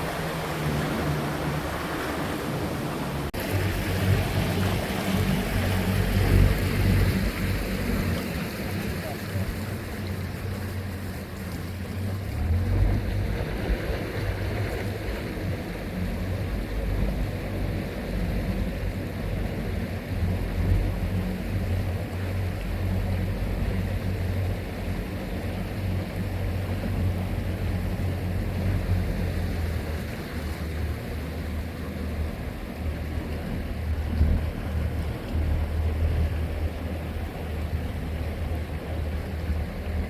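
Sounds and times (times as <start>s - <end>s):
boat motor humming: 0.0s - 40.0s
water noise: 0.0s - 40.0s.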